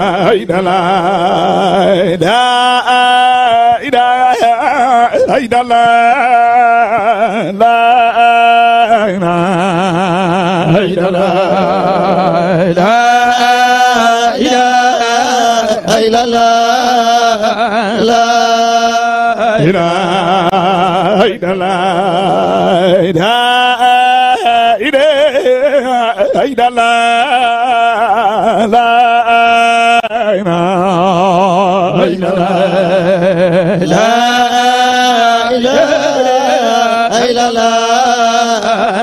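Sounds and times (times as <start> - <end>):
man chanting: 0.0 - 39.0.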